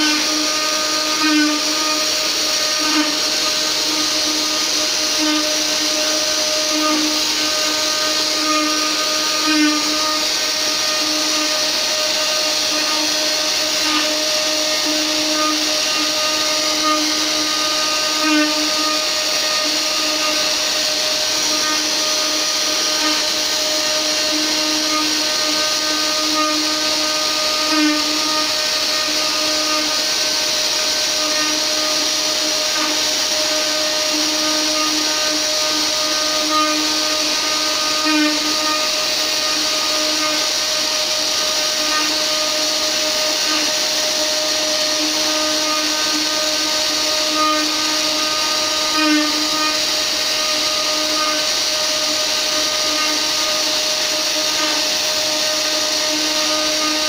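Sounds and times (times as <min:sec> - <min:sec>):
cnc router spindle whining: 0:00.0 - 0:57.0.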